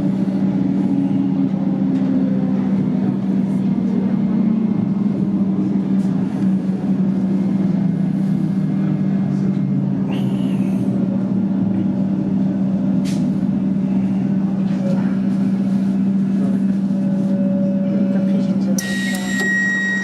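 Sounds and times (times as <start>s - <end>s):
electric train humming: 0.0s - 20.0s.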